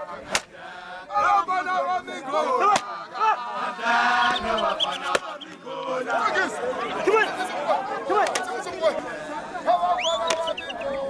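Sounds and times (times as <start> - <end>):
spectators shouting: 0.0 - 11.0.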